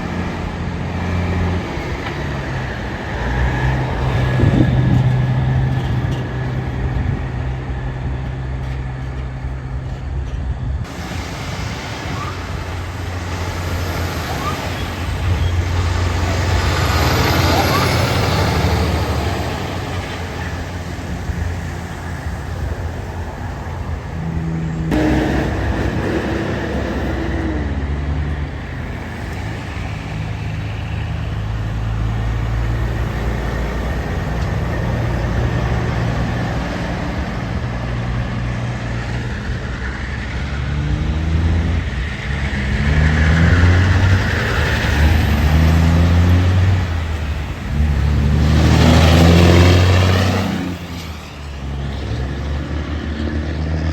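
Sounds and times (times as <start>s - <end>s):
heavy truck diesel engines: 0.0s - 53.9s
truck engine shifting gears: 0.0s - 53.9s.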